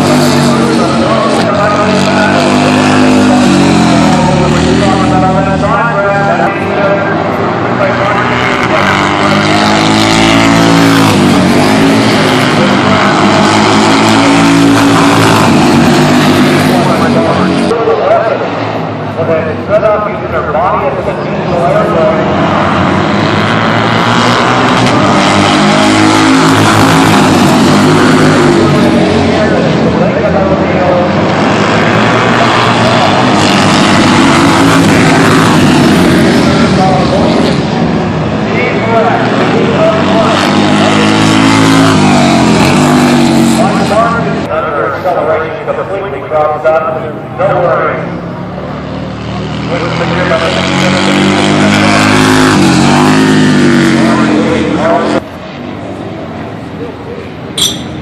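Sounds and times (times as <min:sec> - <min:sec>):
racing motorcycle engines revving: 0:00.0 - 0:58.0.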